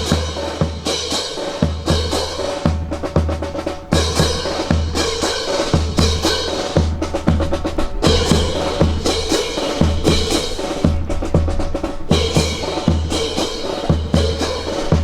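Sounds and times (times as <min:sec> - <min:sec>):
snare drum: 0:00.0 - 0:15.0.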